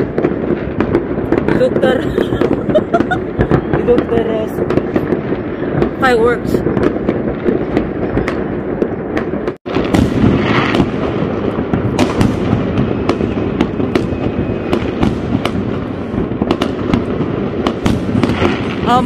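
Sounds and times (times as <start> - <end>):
fireworks bangs and cracks: 0.0 - 19.0.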